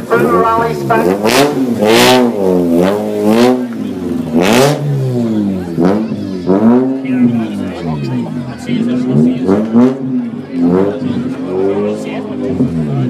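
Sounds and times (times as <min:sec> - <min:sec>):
rally car engine revving hard: 0:00.0 - 0:13.0.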